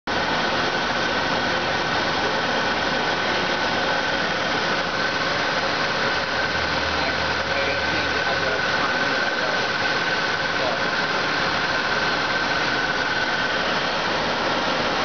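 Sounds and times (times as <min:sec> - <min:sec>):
car engine idling: 0:00.1 - 0:15.0
steady high whine: 0:00.1 - 0:15.0.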